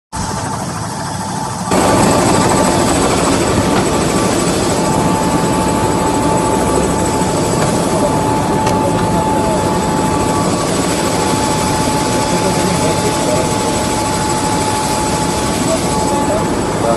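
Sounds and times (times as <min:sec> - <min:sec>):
helicopter turbine and rotor: 0:00.1 - 0:16.9
high whine: 0:00.2 - 0:16.9.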